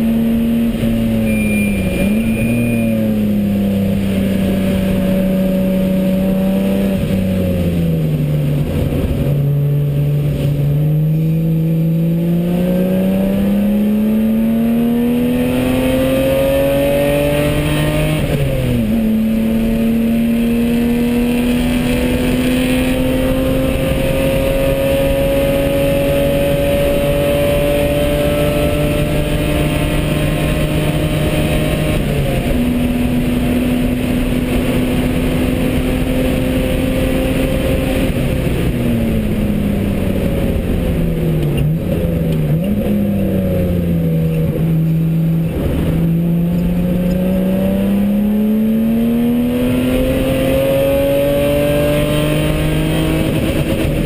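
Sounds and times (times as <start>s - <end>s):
car engine at full throttle: 0.0s - 54.0s
road and tyre noise: 0.0s - 54.0s.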